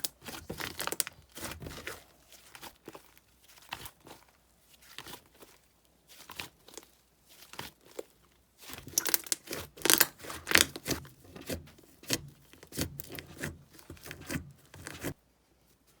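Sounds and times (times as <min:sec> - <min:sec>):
slime crackling as squeezed by hand: 0:00.0 - 0:15.2.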